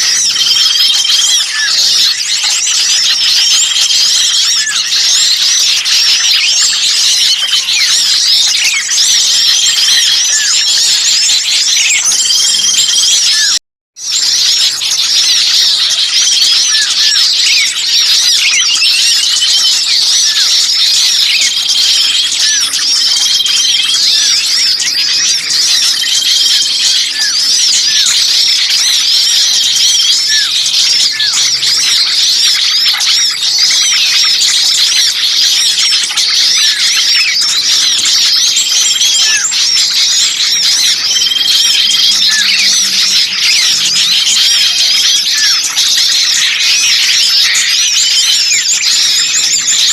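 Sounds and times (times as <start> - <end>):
songbirds chirping and twittering: 0.0 - 49.9.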